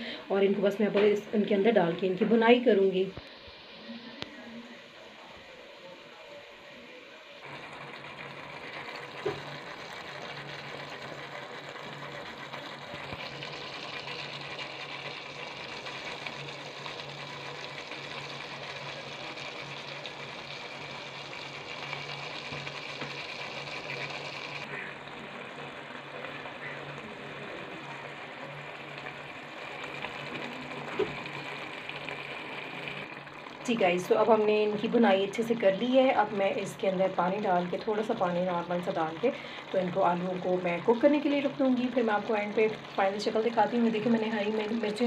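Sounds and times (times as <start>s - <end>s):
potatoes sizzling in oil: 7.4s - 45.0s.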